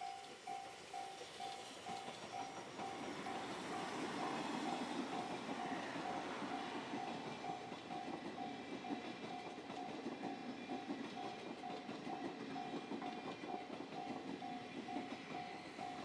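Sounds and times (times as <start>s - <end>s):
train wheels clattering over joints: 0.0s - 16.0s.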